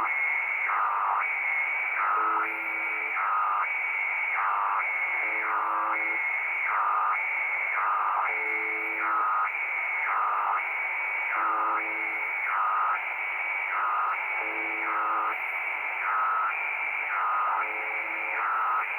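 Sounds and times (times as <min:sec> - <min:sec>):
radio static hiss: 0:00.0 - 0:18.9.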